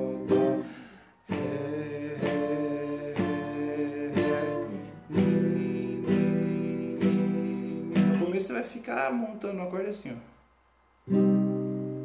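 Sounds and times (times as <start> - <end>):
classical guitar strumming: 0.0 - 8.8, 11.1 - 12.0.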